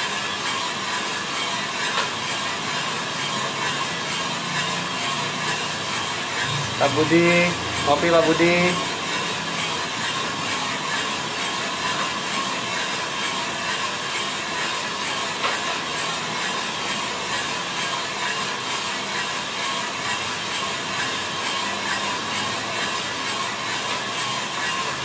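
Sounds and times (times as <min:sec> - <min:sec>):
coffee roaster drum turning: 0:00.0 - 0:25.0.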